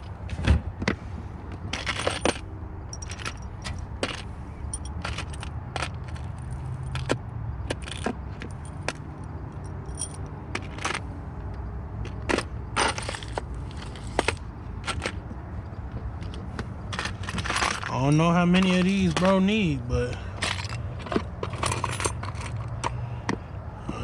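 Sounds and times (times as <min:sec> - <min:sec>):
metal screws clinking and rattling: 0:01.7 - 0:11.1, 0:12.0 - 0:23.0.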